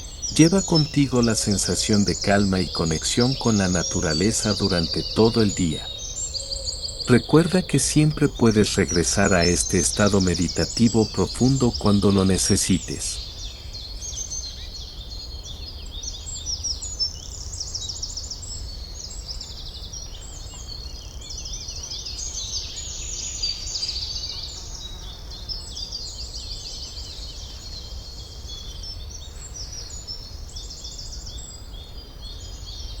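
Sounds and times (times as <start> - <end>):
songbirds singing and chirping: 0.0 - 33.0.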